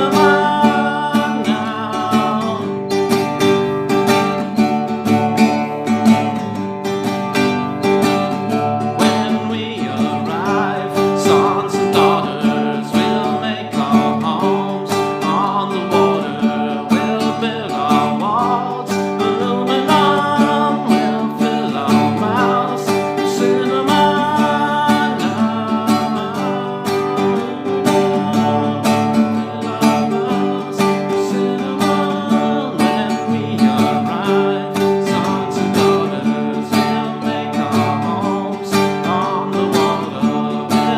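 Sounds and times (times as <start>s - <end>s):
acoustic guitar strumming: 0.0s - 40.9s
wordless melody line: 0.0s - 40.9s.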